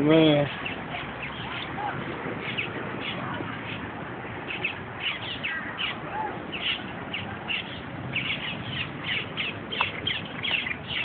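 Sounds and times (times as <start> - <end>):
birds harsh high calls: 0.3 - 11.0.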